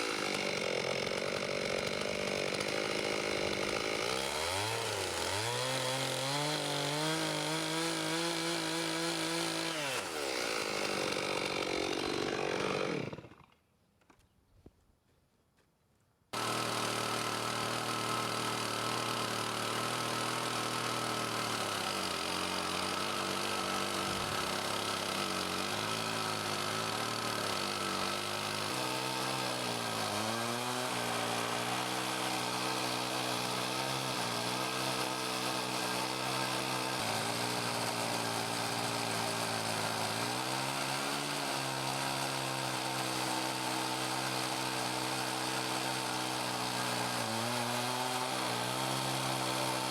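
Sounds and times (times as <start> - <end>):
chainsaw cutting log: 0.0 - 14.1, 16.3 - 49.9.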